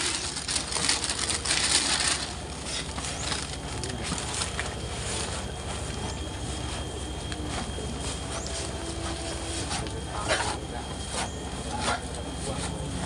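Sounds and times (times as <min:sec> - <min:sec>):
chopped forage rustling and crunching: 0:00.0 - 0:13.0.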